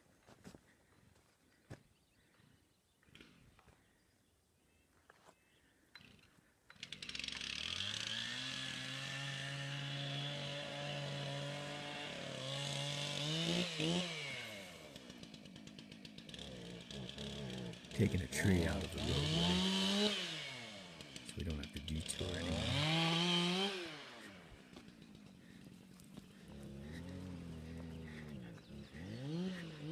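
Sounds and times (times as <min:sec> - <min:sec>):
chainsaw revving: 0:06.0 - 0:29.9.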